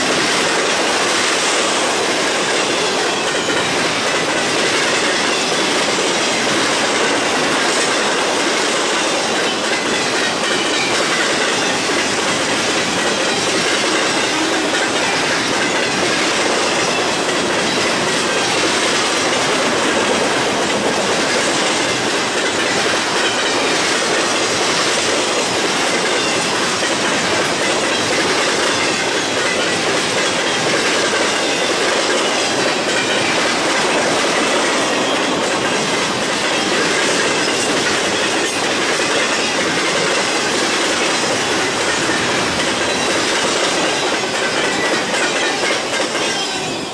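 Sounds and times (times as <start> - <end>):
freight train rolling past: 0.0 - 46.9
wheels clattering on rails: 0.0 - 46.9.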